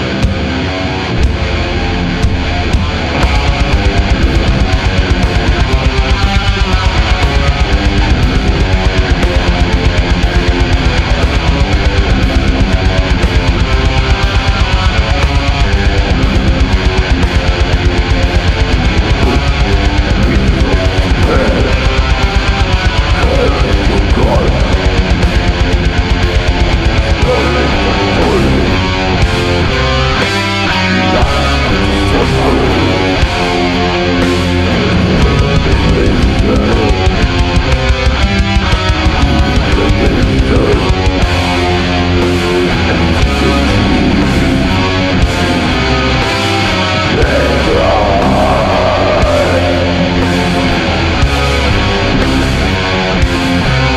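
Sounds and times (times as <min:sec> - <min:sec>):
distorted electric guitars: 0:00.0 - 0:53.9
drum kit fast beat: 0:02.2 - 0:53.9.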